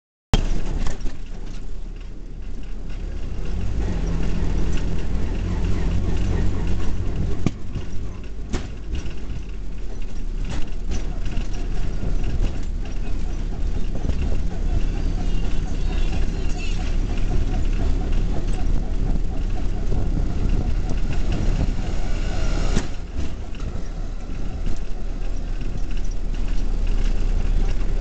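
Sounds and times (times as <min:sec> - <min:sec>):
small engine rumbling: 0:00.4 - 0:28.0.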